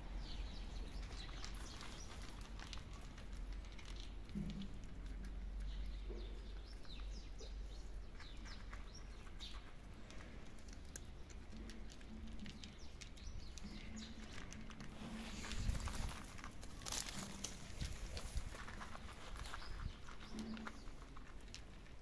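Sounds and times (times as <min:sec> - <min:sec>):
cats crunching dry kibble: 0:00.2 - 0:22.0.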